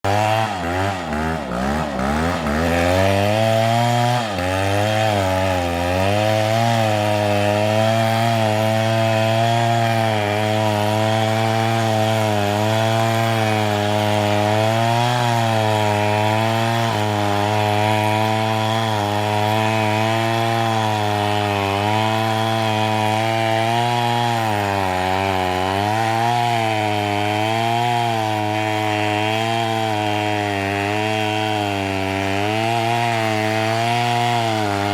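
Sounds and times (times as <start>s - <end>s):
chainsaw engine running: 0.0s - 34.9s.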